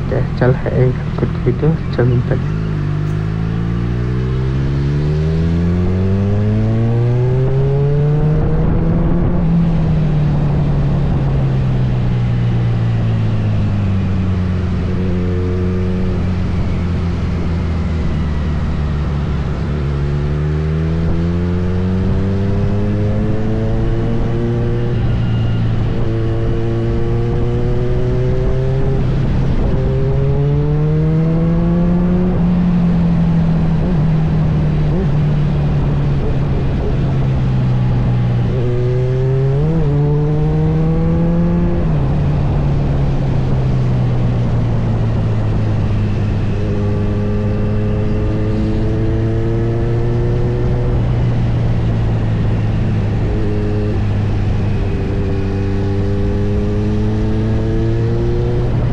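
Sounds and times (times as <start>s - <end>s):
motorcycle engine revving: 0.0s - 58.9s
rushing wind noise: 5.4s - 20.0s, 21.9s - 58.9s.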